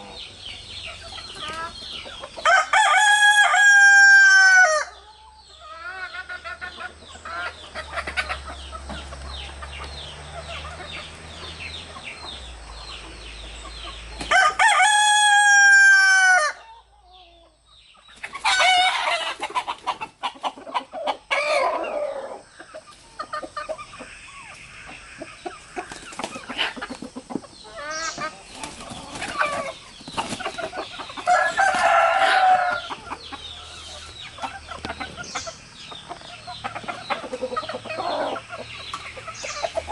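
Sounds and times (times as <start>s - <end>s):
hens clucking: 0.0s - 39.9s
roosters crowing: 0.0s - 39.9s.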